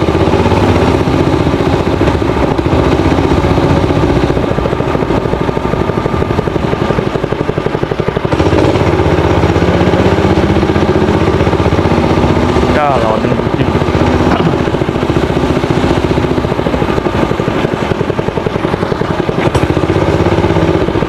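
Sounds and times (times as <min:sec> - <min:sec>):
minibike engine running: 0:00.0 - 0:21.0.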